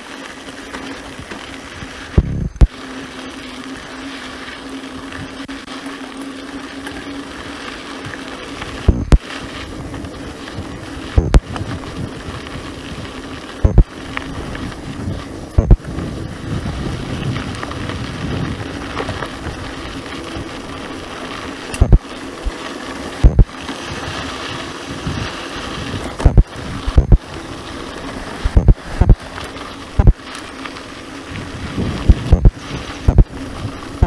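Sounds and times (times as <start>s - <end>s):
bike rattling: 0.0s - 34.0s
bike tyres rumbling on dirt: 0.0s - 34.0s
bike knocking over bumps: 0.1s - 34.0s.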